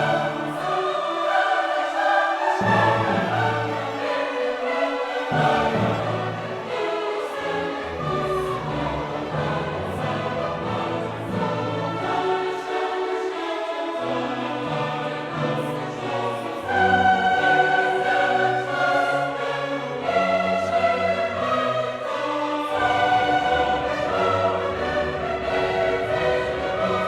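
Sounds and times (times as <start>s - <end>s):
choir singing with orchestra: 0.0s - 27.0s.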